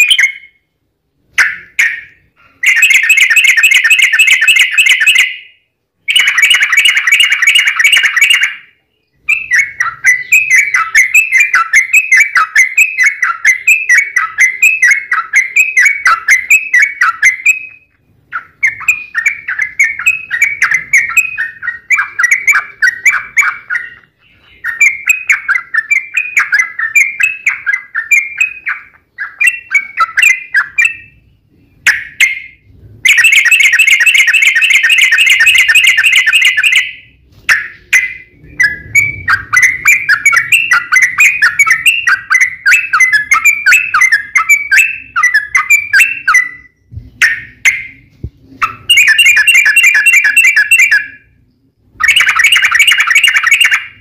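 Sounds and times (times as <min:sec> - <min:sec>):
bird rapid trill: 0:00.0 - 0:00.6, 0:01.3 - 0:31.2, 0:31.8 - 0:51.4, 0:52.0 - 0:54.0.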